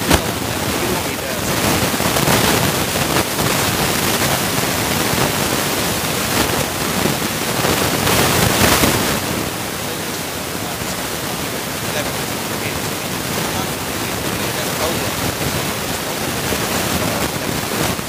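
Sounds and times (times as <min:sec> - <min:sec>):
steady rushing hiss: 0:00.0 - 0:18.0.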